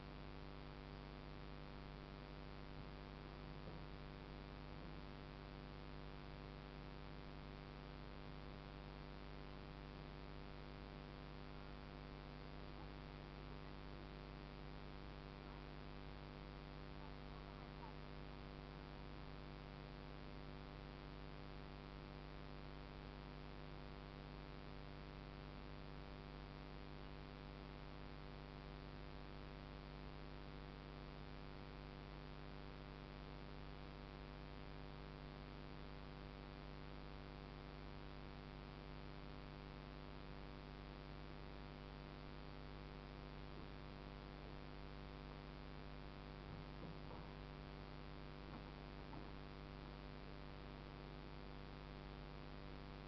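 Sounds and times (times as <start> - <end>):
faint electrical hum with hiss: 0.0 - 53.0.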